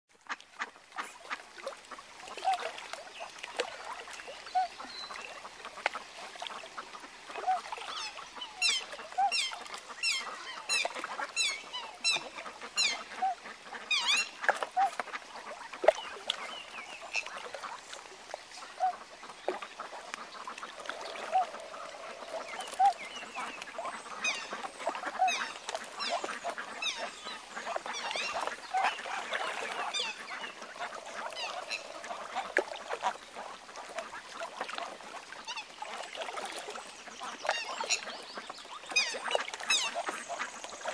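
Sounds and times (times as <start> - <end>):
waterfowl low calls: 0.6 - 40.9.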